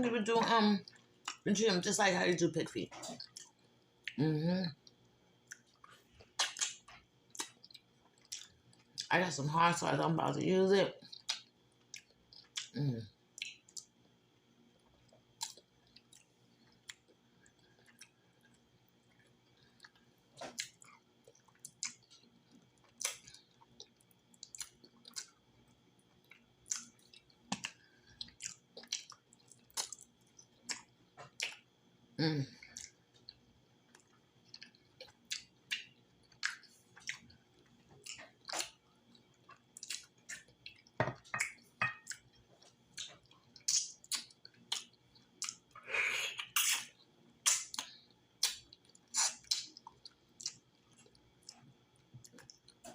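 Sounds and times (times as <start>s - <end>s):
chewing and lip smacks: 0.8s - 1.4s, 3.0s - 4.2s, 4.8s - 9.1s, 11.0s - 14.2s, 14.8s - 31.7s, 32.7s - 45.8s, 46.4s - 52.9s.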